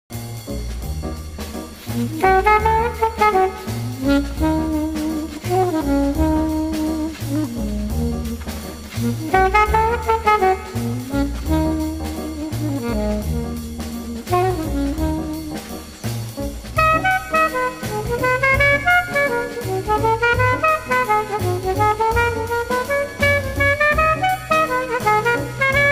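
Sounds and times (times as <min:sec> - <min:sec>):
jazz music with brass: 0:00.1 - 0:25.9.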